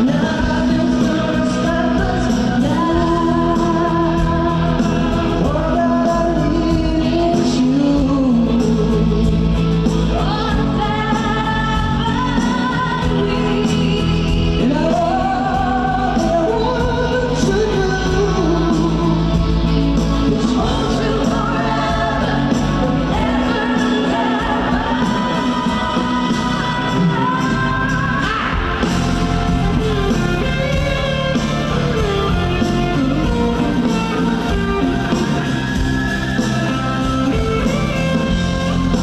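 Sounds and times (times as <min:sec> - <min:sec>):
live pop-rock band: 0:00.0 - 0:39.0.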